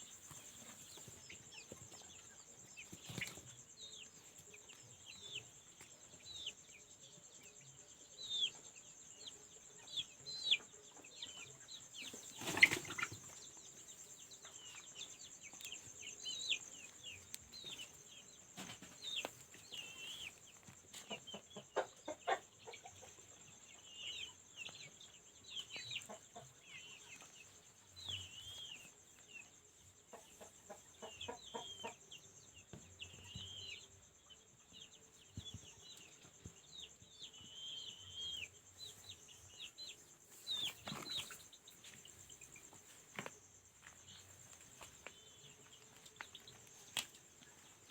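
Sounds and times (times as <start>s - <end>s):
chicks peeping: 0.0s - 47.9s.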